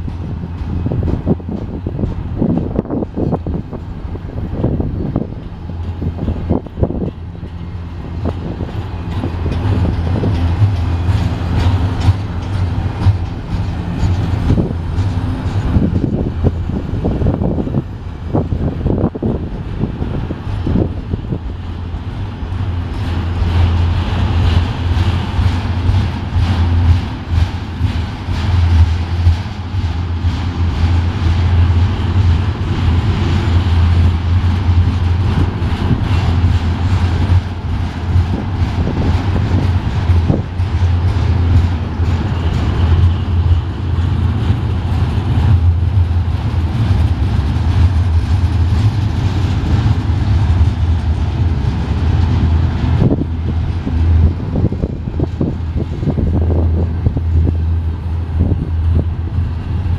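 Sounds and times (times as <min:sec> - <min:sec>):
rail cars clanking: 0:00.0 - 0:59.9
train wheels rumbling on rail: 0:00.0 - 0:59.9.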